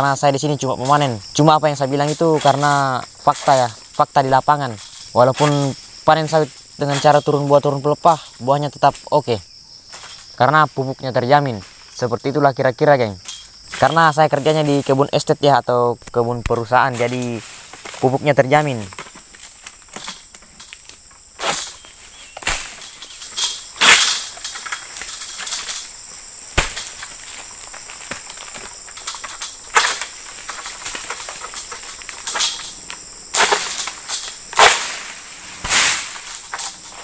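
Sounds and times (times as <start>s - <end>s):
sickle scraping palm stalks: 0.0s - 9.3s, 13.2s - 15.3s, 16.0s - 37.0s
palm leaves rustling: 0.0s - 37.0s.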